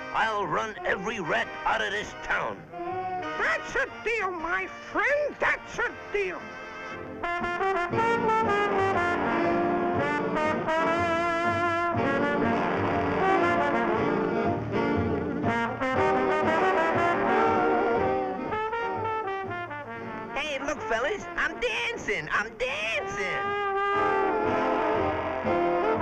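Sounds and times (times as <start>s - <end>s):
jazzy brass music: 0.0s - 26.0s.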